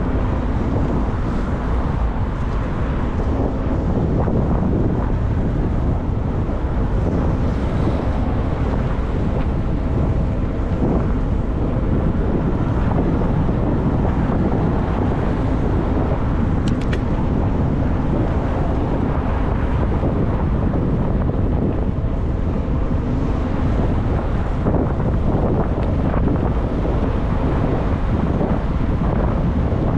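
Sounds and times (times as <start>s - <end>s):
road noise: 0.0s - 29.9s
wind buffeting microphone: 0.0s - 29.9s.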